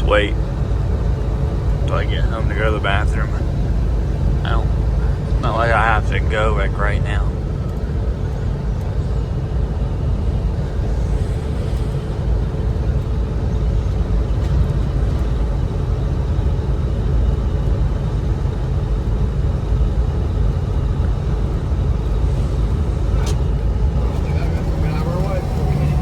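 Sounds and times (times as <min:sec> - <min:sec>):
road and engine noise inside car: 0:00.0 - 0:26.0.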